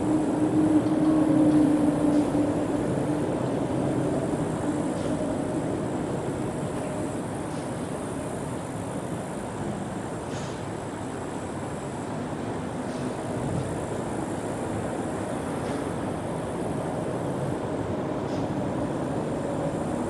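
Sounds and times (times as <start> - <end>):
traffic rumble on bridge: 0.0 - 20.0.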